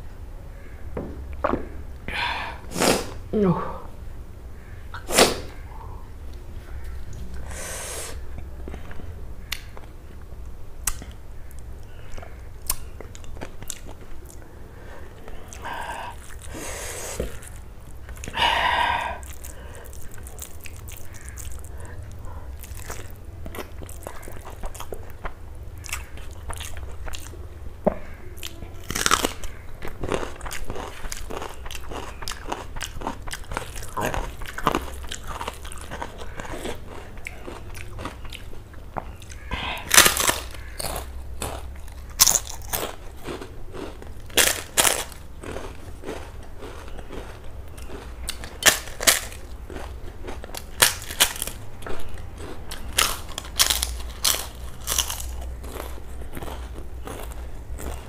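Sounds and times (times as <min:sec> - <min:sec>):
low steady hum: 0:00.0 - 0:58.0
chewing and crunching: 0:10.8 - 0:58.0.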